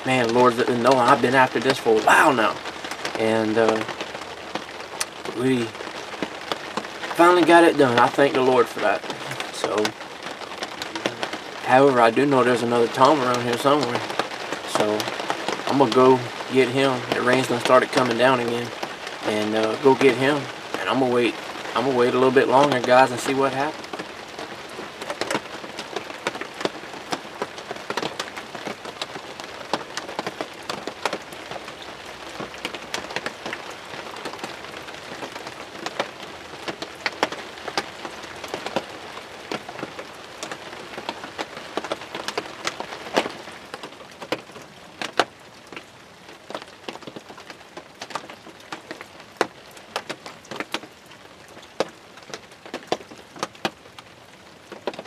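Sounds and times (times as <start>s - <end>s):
raindrops ticking close by: 0.0s - 55.0s
steady rain falling: 0.0s - 55.0s.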